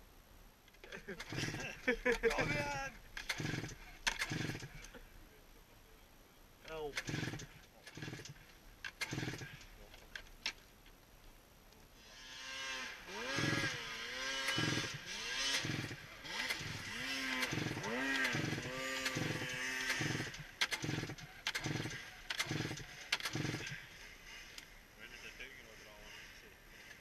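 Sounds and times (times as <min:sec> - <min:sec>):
snowmobile engine pull-start whir: 0:00.8 - 0:05.0, 0:06.7 - 0:10.6, 0:12.0 - 0:27.0.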